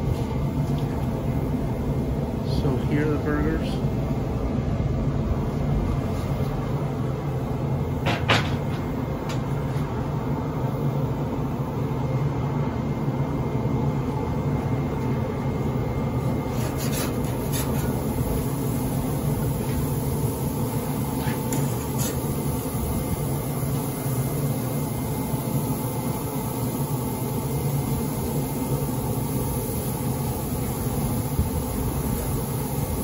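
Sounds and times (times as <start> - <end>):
grill fan humming: 0.0 - 33.0.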